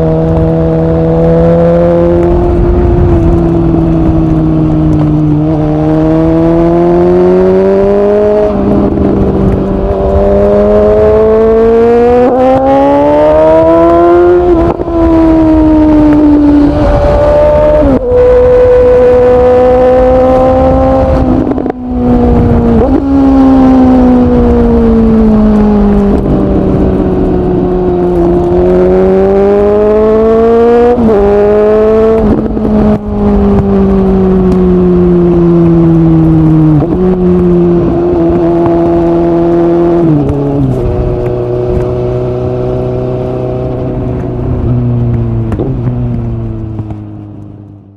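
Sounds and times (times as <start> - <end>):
gear changes: 0.0 - 47.9
motorcycle engine revving: 0.0 - 47.9.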